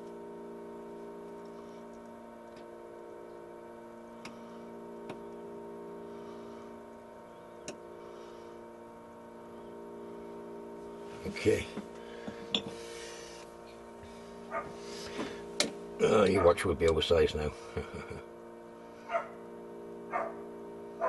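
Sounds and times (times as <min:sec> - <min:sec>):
workshop hum: 0:00.0 - 0:21.0.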